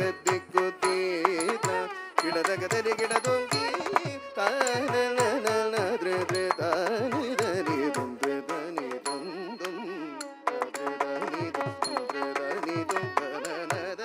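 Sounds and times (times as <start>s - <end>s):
mridangam drum strokes: 0.0s - 14.0s
ornamented melody: 0.0s - 14.0s.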